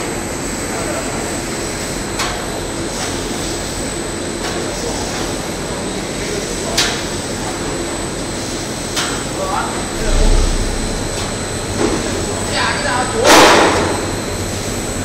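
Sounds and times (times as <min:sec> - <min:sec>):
fryer machinery noise with whine: 0:00.0 - 0:15.0.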